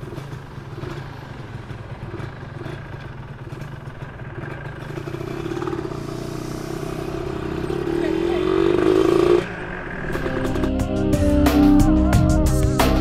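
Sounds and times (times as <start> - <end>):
two-stroke motorcycle engine: 0.0 - 10.8.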